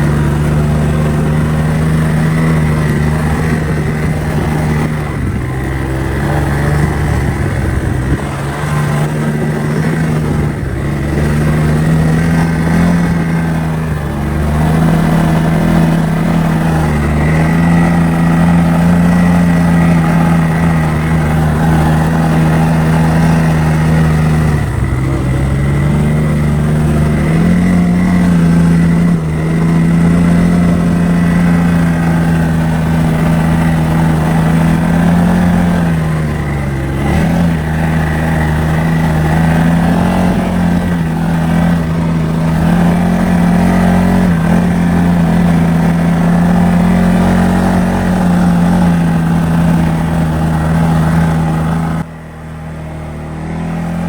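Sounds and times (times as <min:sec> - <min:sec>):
motor engine running: 0:00.0 - 0:54.0.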